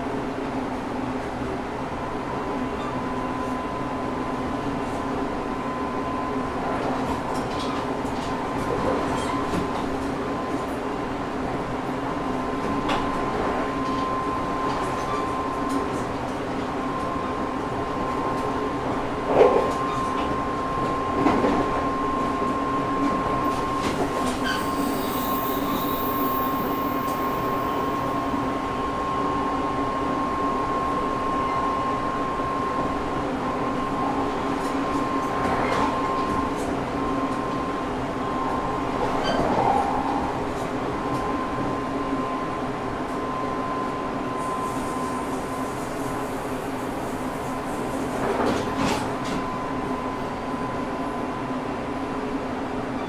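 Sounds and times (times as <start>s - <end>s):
train rumble inside car: 0.0s - 53.0s.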